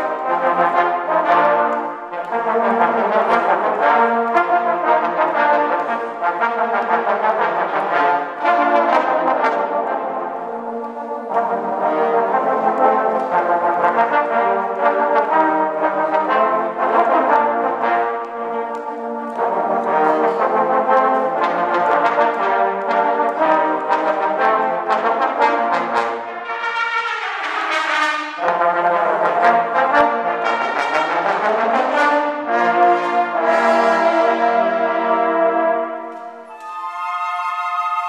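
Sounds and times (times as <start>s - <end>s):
trombone choir playing chords: 0.0s - 38.0s.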